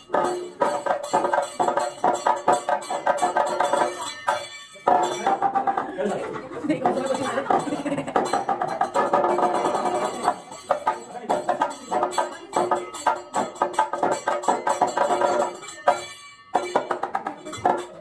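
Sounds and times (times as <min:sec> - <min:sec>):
bright metallic clinks: 0:00.0 - 0:05.7, 0:07.5 - 0:18.0
drum strokes: 0:00.0 - 0:18.0.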